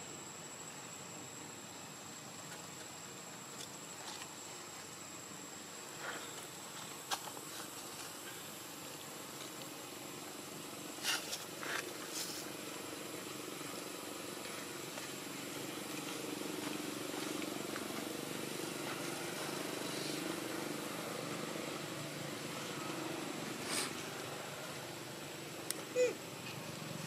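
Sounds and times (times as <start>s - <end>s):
distant motor vehicle hum: 0.0s - 27.0s.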